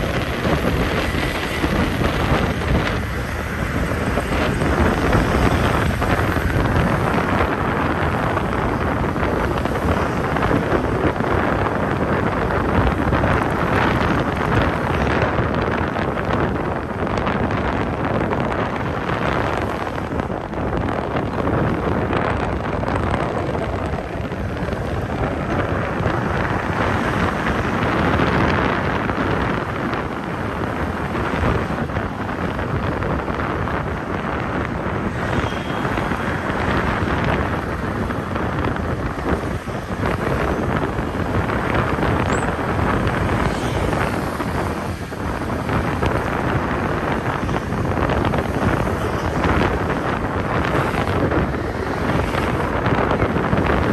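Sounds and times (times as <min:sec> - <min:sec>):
vehicle and road noise: 0:00.0 - 0:53.9
wind buffeting microphone: 0:00.0 - 0:53.9.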